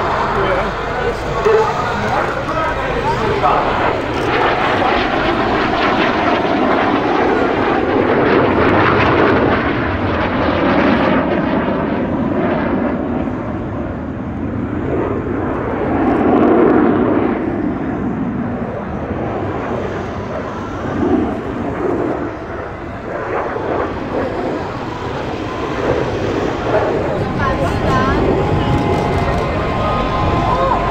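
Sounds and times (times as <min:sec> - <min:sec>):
jet engines flying past: 0:00.0 - 0:30.9.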